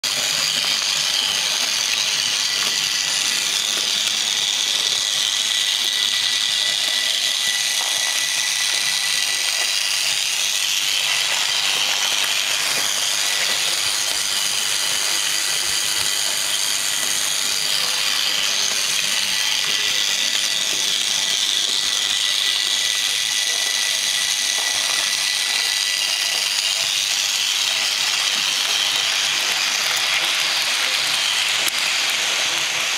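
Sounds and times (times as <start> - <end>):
model train motor whirring: 0.0 - 32.9
thin steady whine: 0.0 - 32.9.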